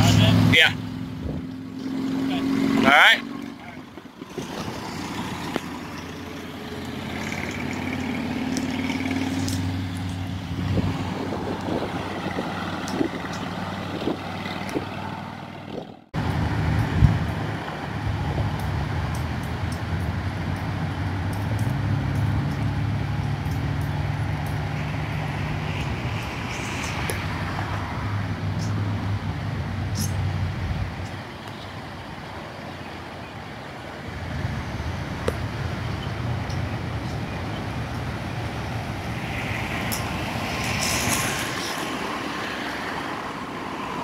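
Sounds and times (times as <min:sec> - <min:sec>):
car engines and traffic drone: 0:00.0 - 0:44.0.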